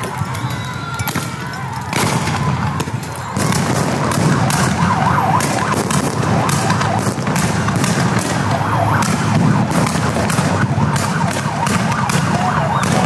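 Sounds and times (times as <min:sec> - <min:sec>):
police siren wailing: 0:00.0 - 0:13.0
sharp bangs: 0:00.0 - 0:13.0.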